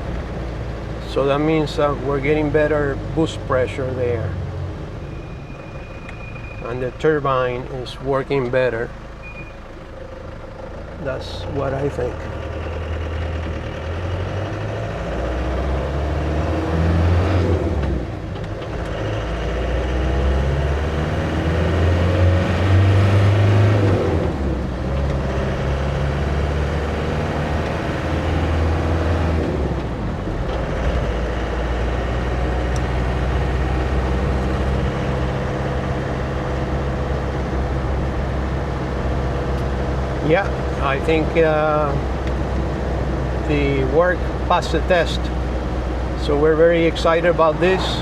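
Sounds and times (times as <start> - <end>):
diesel engine accelerating: 0.0 - 48.0.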